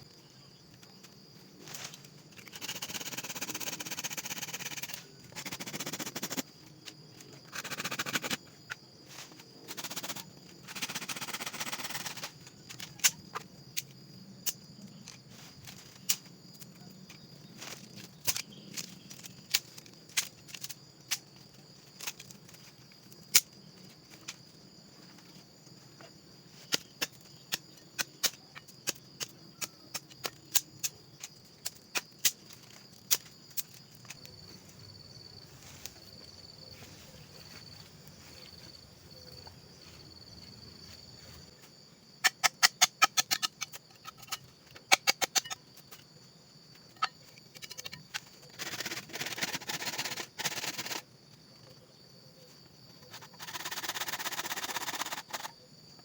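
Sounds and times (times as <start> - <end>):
high insect buzz: 0.0 - 56.0.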